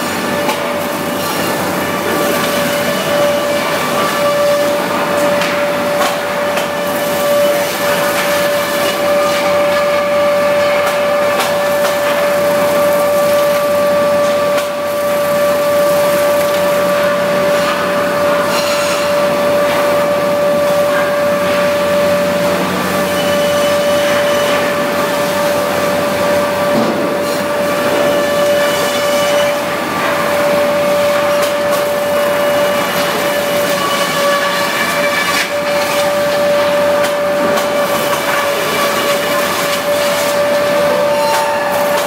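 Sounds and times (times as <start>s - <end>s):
wood planing machine whine: 0.0s - 42.0s.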